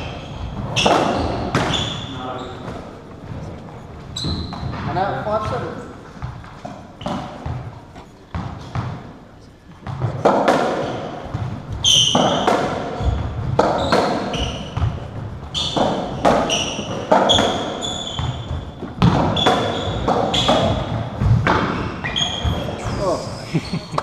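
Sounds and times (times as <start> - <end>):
ball hitting rackets and walls: 0.0 - 3.4, 4.0 - 23.2
shoes squeaking on court floor: 0.0 - 24.0.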